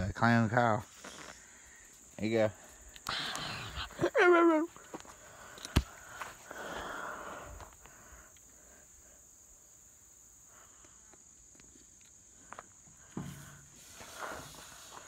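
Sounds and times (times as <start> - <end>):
insects chirring: 0.0 - 15.0
rustle: 0.6 - 15.0.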